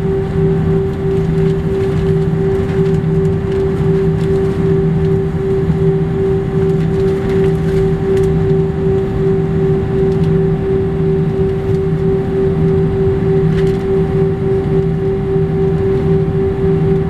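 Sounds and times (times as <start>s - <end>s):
jet engines idle hum: 0.0s - 17.0s
low wavering drone: 0.0s - 17.0s.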